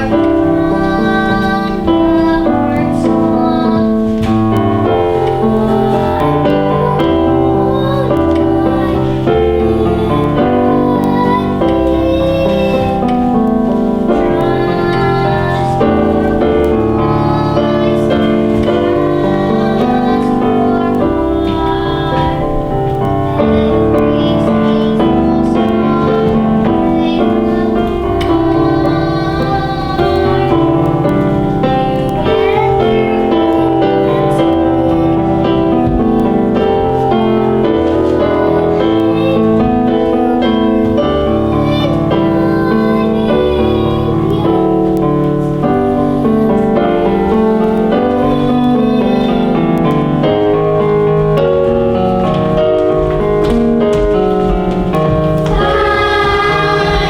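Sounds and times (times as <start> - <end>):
piano music: 0.0 - 57.0.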